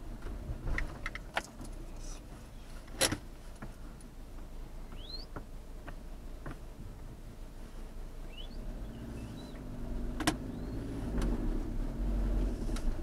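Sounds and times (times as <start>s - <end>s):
faint low car hum: 0.0s - 13.0s.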